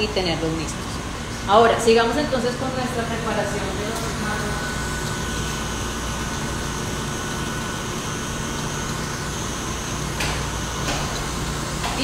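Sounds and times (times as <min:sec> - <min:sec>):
stand mixer whisking: 0:01.8 - 0:12.0.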